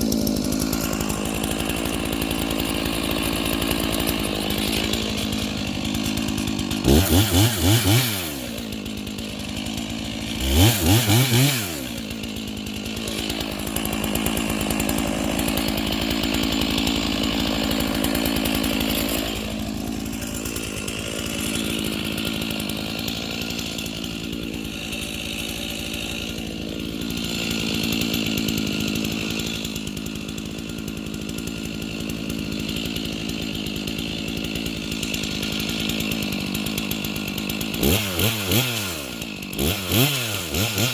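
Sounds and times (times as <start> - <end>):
chainsaw revving and running: 0.0 - 40.9.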